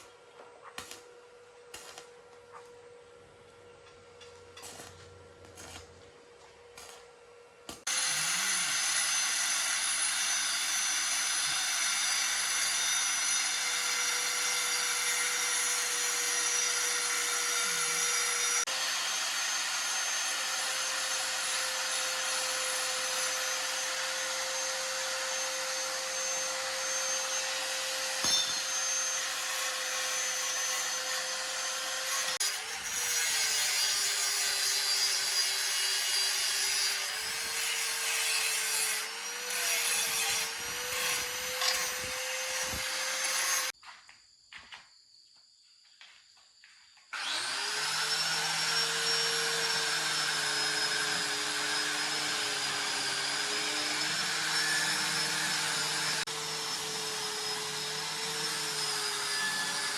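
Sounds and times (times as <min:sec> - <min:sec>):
power tool grinding: 0:04.1 - 0:06.0, 0:07.7 - 0:43.8, 0:47.2 - 0:59.9.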